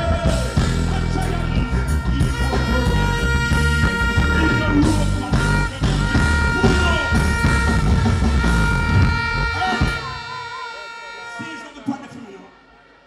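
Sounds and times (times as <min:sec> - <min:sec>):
live band music over pa: 0:00.0 - 0:13.0.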